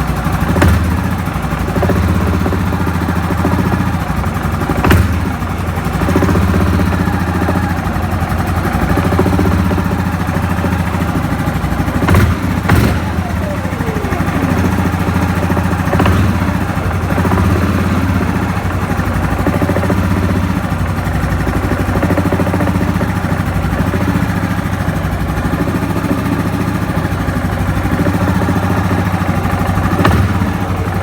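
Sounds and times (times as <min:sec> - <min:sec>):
atv engine idling: 0:00.0 - 0:31.0
engine knocking: 0:00.0 - 0:31.0.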